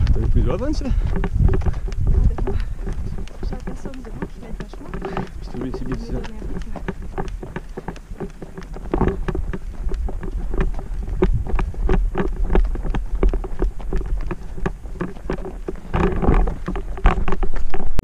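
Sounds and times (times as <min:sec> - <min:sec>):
microphone handling noise: 0:00.0 - 0:18.0
running footsteps on trail: 0:00.0 - 0:18.0
wind rumble on microphone: 0:00.0 - 0:18.0.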